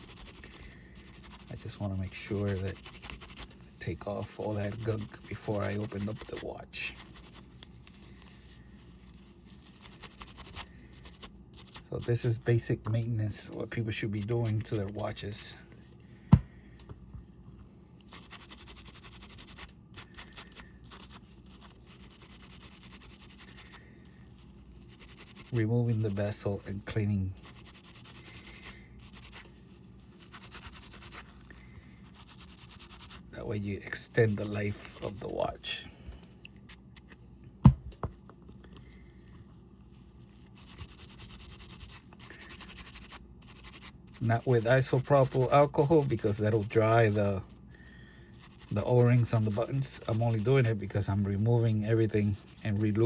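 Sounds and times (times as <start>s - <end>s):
brush scrubbing strokes: 0.0s - 15.5s, 18.0s - 36.1s, 39.0s - 53.0s.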